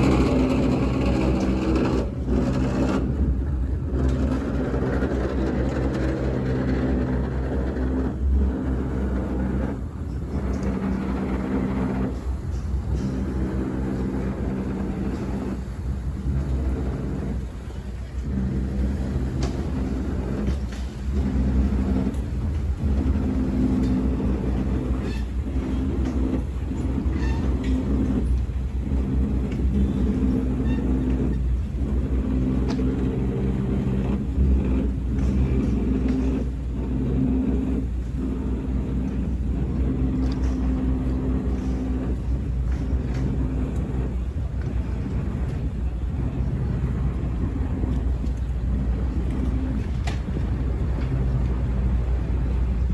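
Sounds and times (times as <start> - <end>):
boat engine rumbling: 0.0 - 52.9.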